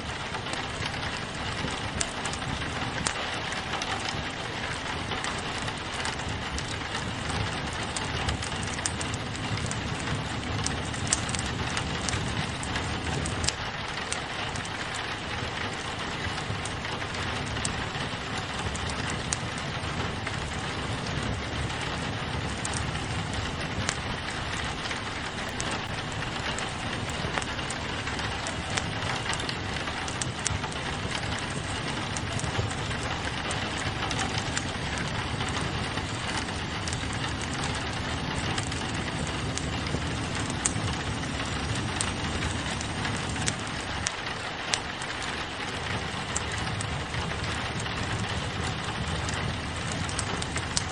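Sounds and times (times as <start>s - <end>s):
rain on a window: 0.0s - 50.9s
wood fire crackling: 0.0s - 50.9s.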